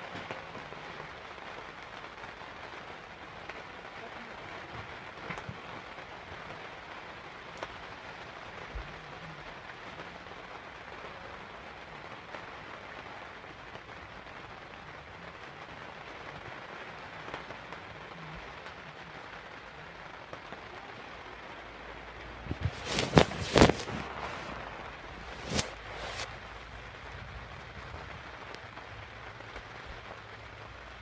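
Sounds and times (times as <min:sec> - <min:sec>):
rain on a caravan roof: 0:00.0 - 0:31.0.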